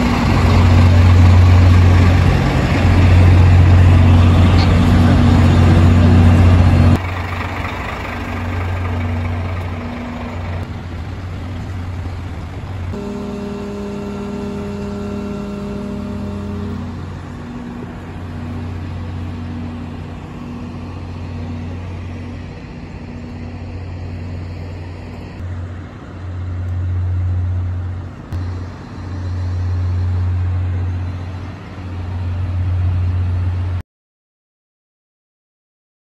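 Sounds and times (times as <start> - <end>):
diesel engine hum: 0.0 - 33.8.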